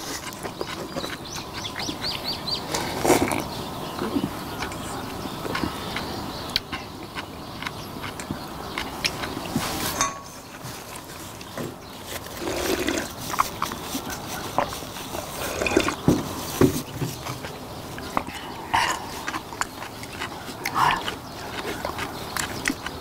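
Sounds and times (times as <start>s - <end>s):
slurping and gulping broth: 0.0s - 11.5s, 12.1s - 23.0s.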